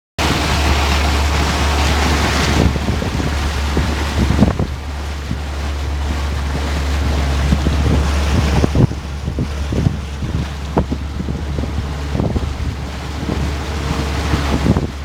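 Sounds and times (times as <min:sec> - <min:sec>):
boat motor droning: 0:00.2 - 0:15.0
water noise: 0:00.2 - 0:15.0
wind on microphone: 0:00.2 - 0:15.0
wind thumps: 0:00.2 - 0:15.0.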